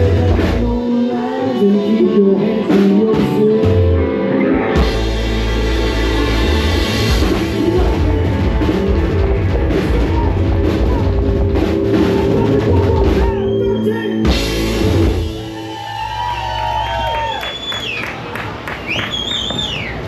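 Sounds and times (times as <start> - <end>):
live rock band playing: 0.0 - 17.4.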